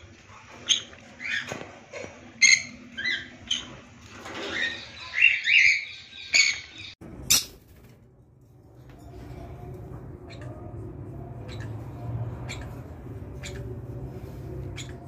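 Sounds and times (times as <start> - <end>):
parrots chirping and squawking: 0.4 - 7.6, 9.1 - 15.0.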